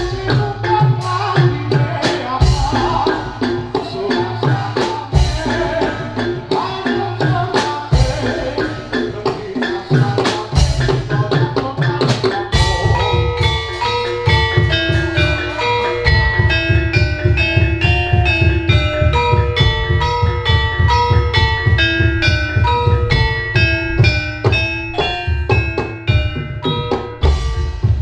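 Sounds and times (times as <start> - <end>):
struck drums: 0.0 - 28.0
tuned metallophones melody: 0.0 - 28.0.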